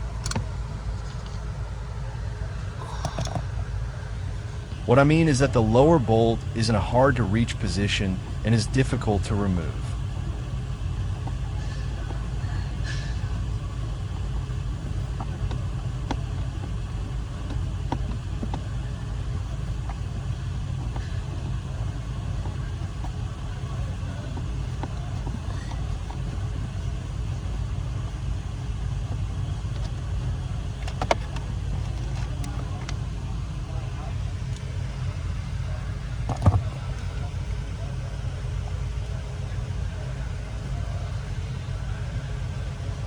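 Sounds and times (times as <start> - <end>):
low mechanical rumble: 0.0 - 43.0.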